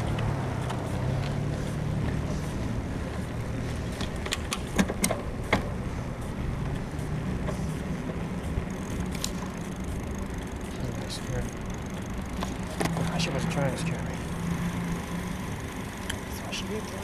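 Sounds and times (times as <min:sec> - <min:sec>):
bicycle frame creaking and clicking: 0:00.0 - 0:17.0
bicycle road rumble: 0:00.0 - 0:17.0
wind: 0:00.0 - 0:17.0.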